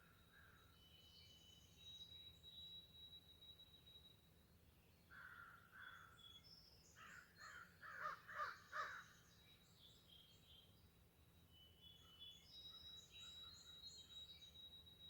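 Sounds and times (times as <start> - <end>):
faint high chirping of small birds: 0.0 - 15.0.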